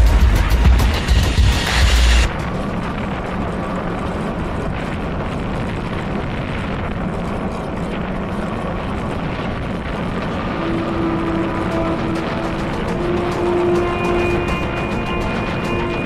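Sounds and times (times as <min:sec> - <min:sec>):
wheels rolling on asphalt: 0:02.3 - 0:16.0
wind buffeting microphone: 0:02.3 - 0:16.0.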